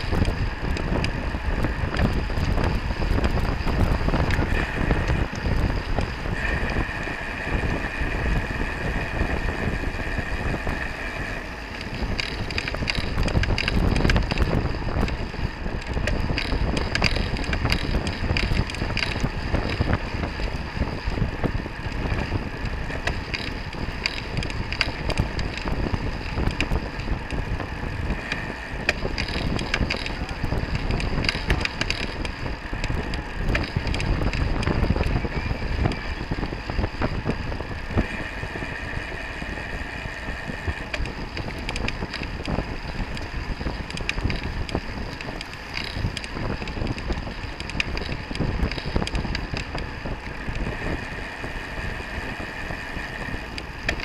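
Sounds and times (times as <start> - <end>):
bicycle clicking and rattling: 0.0 - 54.0
steady whir: 0.0 - 54.0
wind rushing over microphone: 0.0 - 54.0.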